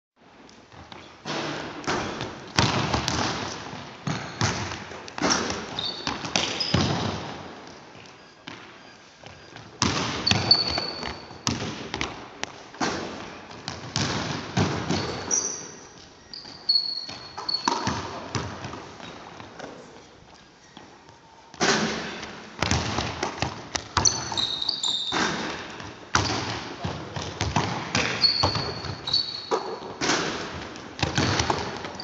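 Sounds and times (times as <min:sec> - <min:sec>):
basketballs bouncing on wood floor: 0:00.7 - 0:07.8, 0:08.5 - 0:19.7, 0:21.5 - 0:32.0
sneaker squeaks: 0:00.7 - 0:12.0, 0:12.8 - 0:32.0.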